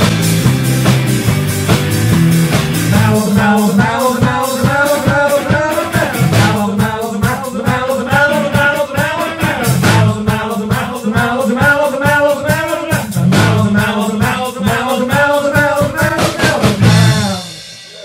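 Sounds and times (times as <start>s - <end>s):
drum kit beat: 0.0s - 18.0s
live rock band playing: 0.0s - 18.0s
man singing: 2.9s - 18.0s.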